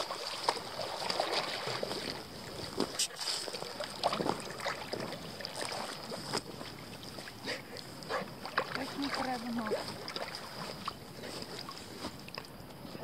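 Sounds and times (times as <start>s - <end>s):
dog splashing in water: 0.0s - 12.6s.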